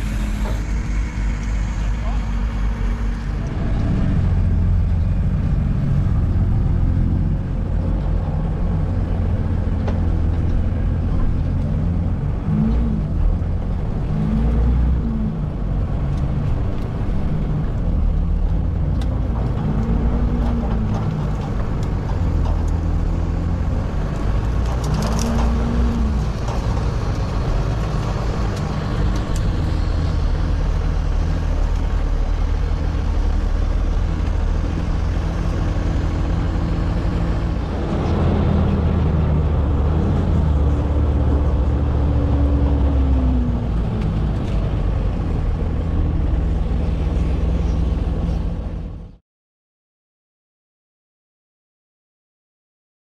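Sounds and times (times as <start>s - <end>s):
tracked vehicle engine drone: 0.0s - 49.2s.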